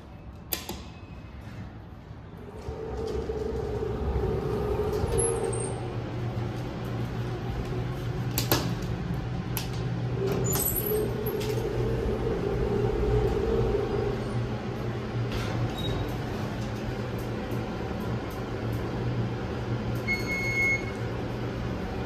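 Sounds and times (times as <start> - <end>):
elevator mechanical hum: 0.0 - 22.0
elevator door motor whining: 2.3 - 22.0.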